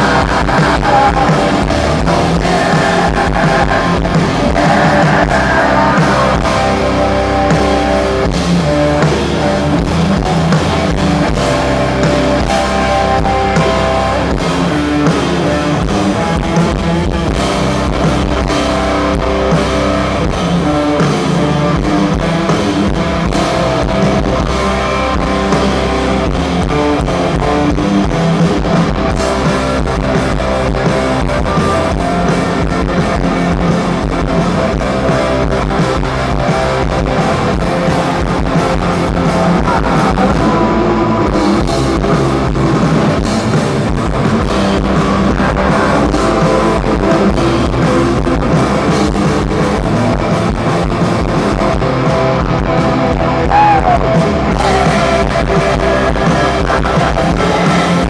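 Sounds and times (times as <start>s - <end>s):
drum kit steady beat: 0.0s - 58.0s
loud electric guitars: 0.0s - 58.0s.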